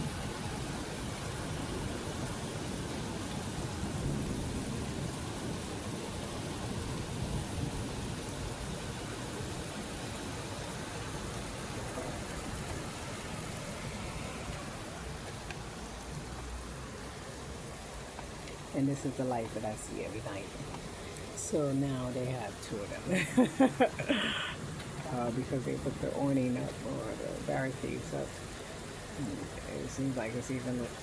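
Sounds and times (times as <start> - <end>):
steady rainfall: 0.0 - 31.0
thunder rumbling: 0.0 - 31.0.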